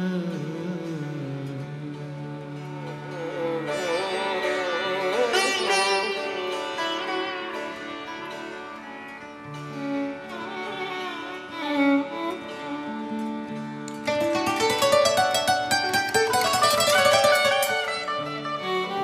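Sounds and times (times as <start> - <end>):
violin melody: 0.0 - 19.0
sitar melody: 0.1 - 19.0.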